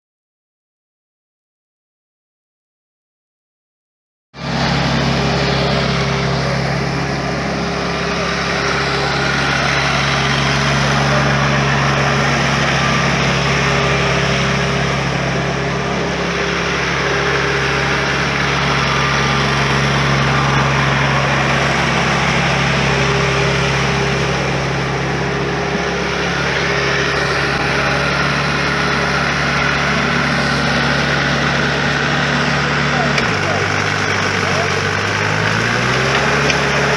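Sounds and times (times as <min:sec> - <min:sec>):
tractor diesel engine running: 0:04.4 - 0:36.9.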